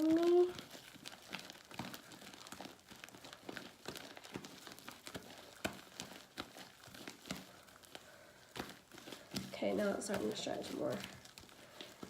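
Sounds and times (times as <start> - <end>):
slime clicking and crackling: 0.0 - 12.0.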